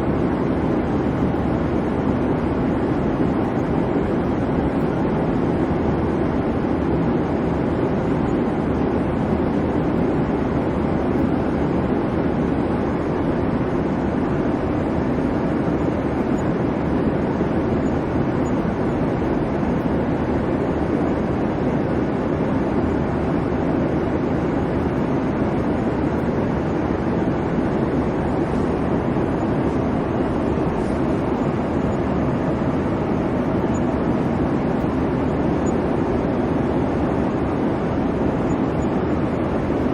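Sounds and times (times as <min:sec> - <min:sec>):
airplane cabin rumble and hiss: 0:00.0 - 0:39.9.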